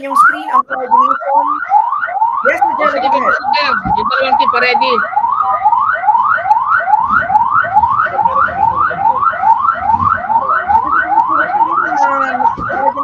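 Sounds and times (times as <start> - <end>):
electronic siren yelping: 0.0 - 13.0.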